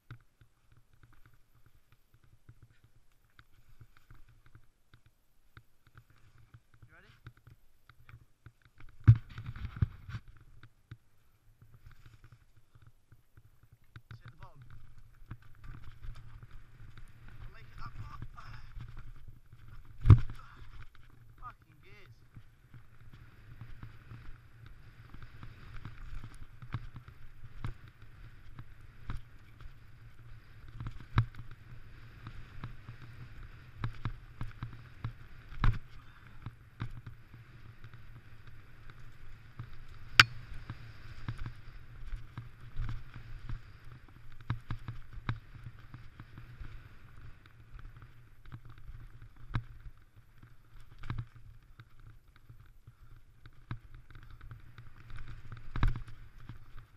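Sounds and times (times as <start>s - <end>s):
bike knocks and rattles: 0.0s - 46.4s, 47.4s - 56.9s
bike tyres rumbling on dirt: 0.0s - 56.9s.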